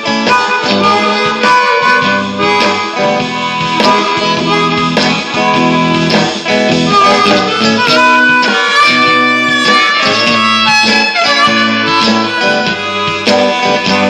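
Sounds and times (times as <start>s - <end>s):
guitar strumming: 0.0s - 14.0s
harmonica blues playing: 0.0s - 14.0s.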